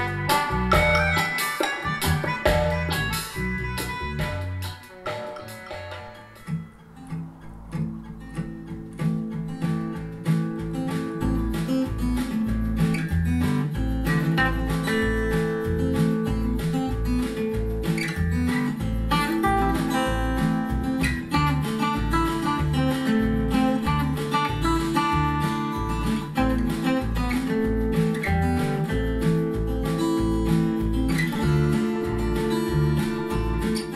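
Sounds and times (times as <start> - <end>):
steady bass line: 0.0 - 4.8, 6.1 - 33.9
folk music with strummed guitar: 0.0 - 33.9.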